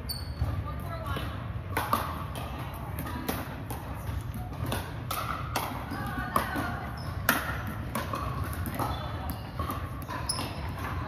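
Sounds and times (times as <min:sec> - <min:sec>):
balls bouncing on wooden floor: 0:00.0 - 0:11.0
paddles striking plastic balls: 0:01.1 - 0:11.0.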